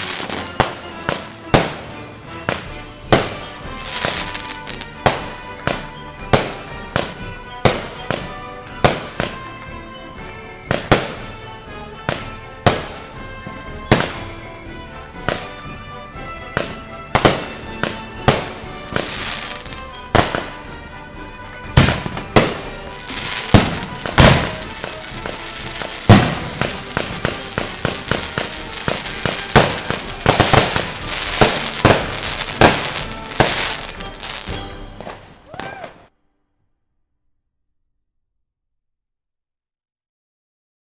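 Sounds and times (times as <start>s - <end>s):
fireworks bursting with crackling: 0.0s - 36.0s
background music: 0.0s - 36.1s.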